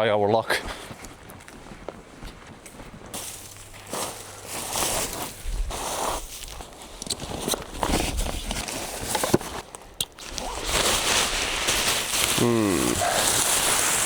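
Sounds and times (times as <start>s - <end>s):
footsteps outdoors: 0.3s - 14.0s.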